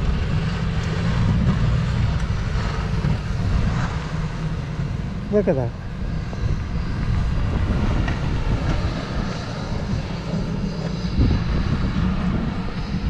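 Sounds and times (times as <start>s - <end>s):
snowplow engine rumbling: 0.0s - 13.0s.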